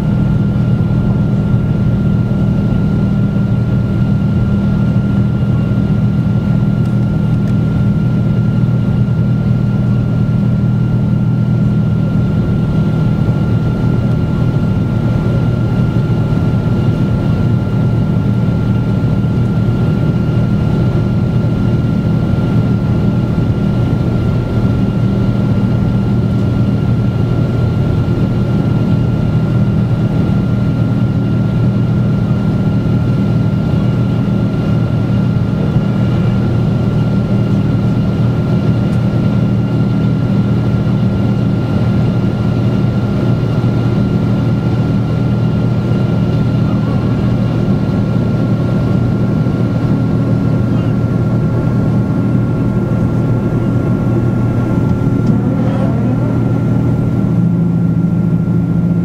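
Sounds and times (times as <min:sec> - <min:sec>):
airplane cabin engine drone: 0:00.0 - 0:59.0
thin steady whine: 0:00.0 - 0:59.0.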